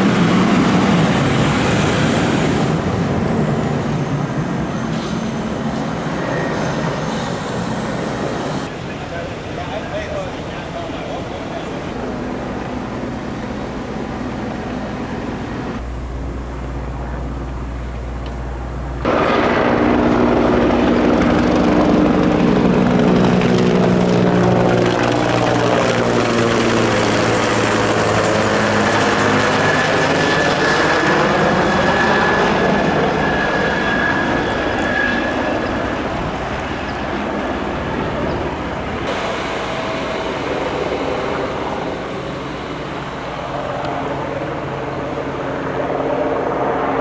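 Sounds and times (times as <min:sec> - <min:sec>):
helicopter rotor beating: 0:00.0 - 0:47.0
high turbine whine: 0:00.0 - 0:47.0
street traffic noise: 0:00.0 - 0:47.0.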